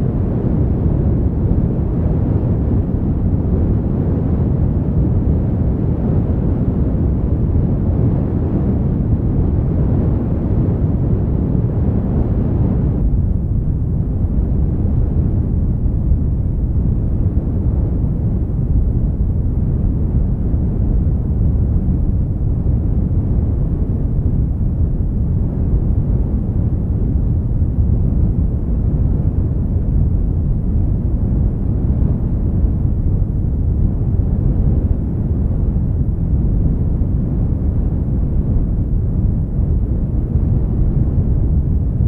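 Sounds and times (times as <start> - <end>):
steady low rumbling: 0.0 - 42.0.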